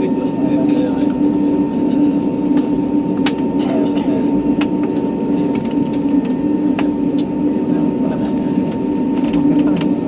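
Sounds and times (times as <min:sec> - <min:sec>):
airliner engine drone: 0:00.0 - 0:10.0.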